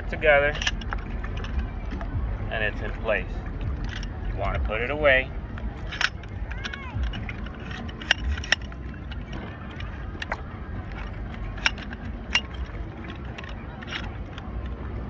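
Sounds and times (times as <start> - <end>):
metal anchor clicks and rattles: 0.2 - 14.9.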